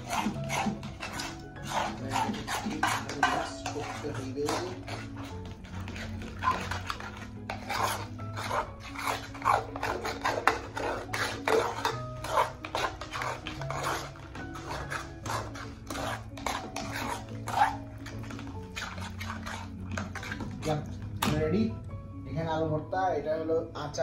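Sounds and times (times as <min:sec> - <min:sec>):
utensil scraping a dish: 0:00.0 - 0:20.9
quiet background music: 0:00.0 - 0:24.0.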